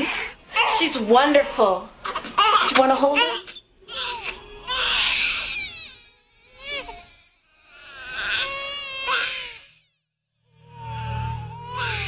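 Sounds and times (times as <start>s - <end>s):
newborn baby crying: 0.0s - 1.0s, 2.2s - 10.0s, 10.6s - 12.0s.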